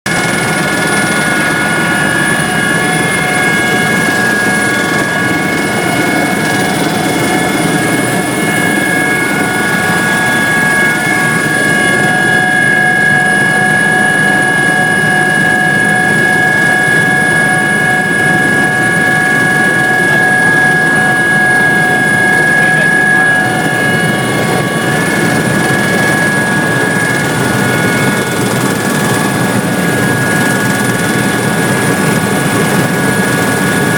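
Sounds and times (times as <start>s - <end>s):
helicopter engine and rotor drone: 0.0s - 33.9s.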